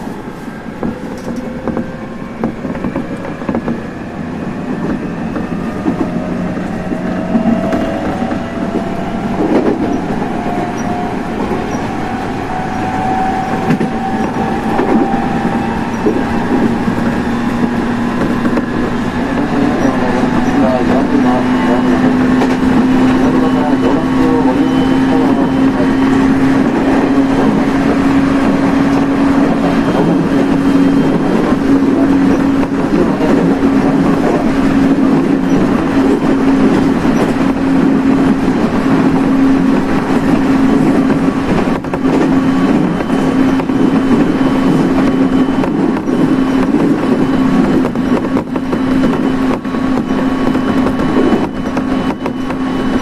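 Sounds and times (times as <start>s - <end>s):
train running noise: 0.0s - 53.0s.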